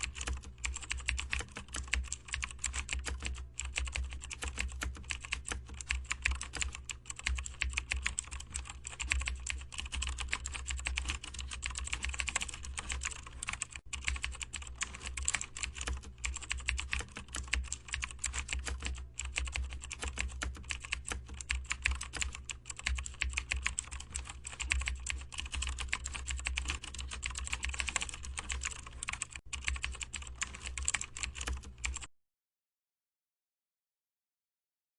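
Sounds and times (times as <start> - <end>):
keyboard typing: 0.0 - 32.1.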